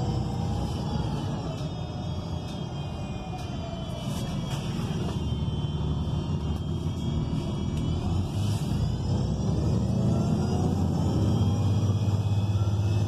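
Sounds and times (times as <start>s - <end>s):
bus engine rumble: 0.0s - 13.0s
high whine rising in pitch: 0.0s - 13.0s.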